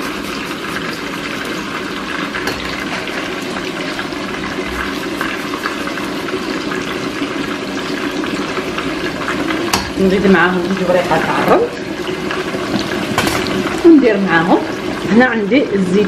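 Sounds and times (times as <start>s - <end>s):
chicken and onion sizzling in pan: 0.0s - 16.0s.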